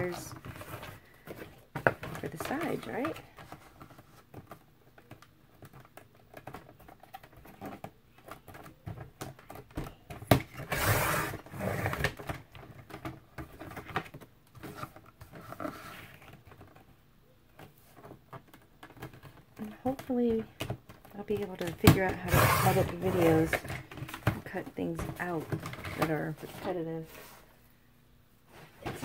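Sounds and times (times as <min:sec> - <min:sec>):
cardboard shifting on plastic: 0:00.0 - 0:16.9, 0:17.6 - 0:27.5, 0:28.6 - 0:29.0.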